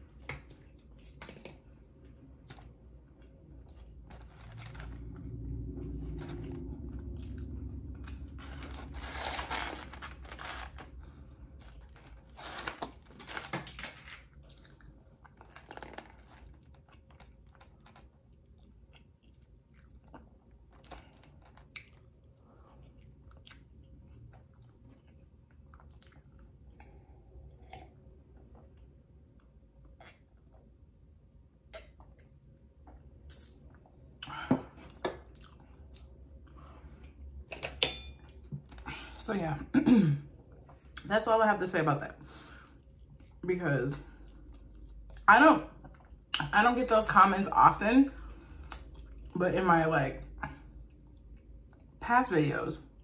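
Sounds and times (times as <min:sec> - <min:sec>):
chewing and crunching food: 0:00.0 - 0:30.9, 0:31.6 - 0:39.2, 0:42.4 - 0:46.5, 0:48.1 - 0:49.4, 0:50.2 - 0:52.0.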